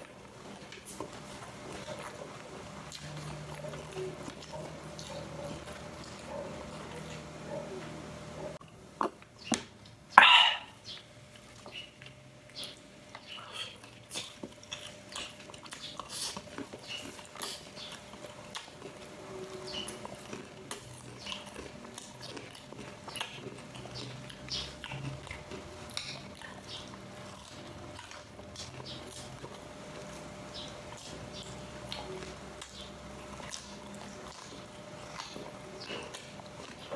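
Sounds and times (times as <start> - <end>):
person chewing food: 0.0 - 36.9.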